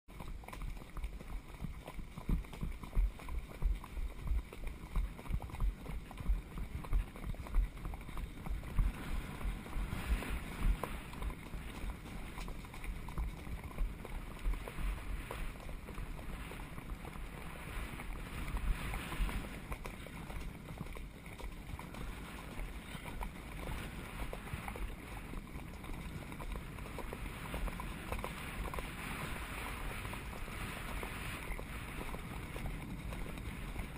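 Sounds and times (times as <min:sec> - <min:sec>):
wind rumbling on microphone: 0:00.1 - 0:33.9.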